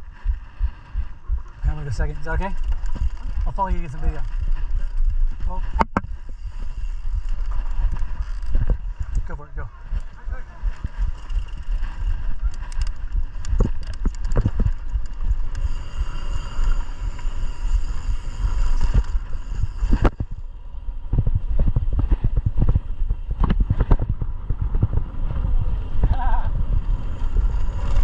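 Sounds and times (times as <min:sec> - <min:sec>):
mountain bike rattling: 0:00.0 - 0:28.0.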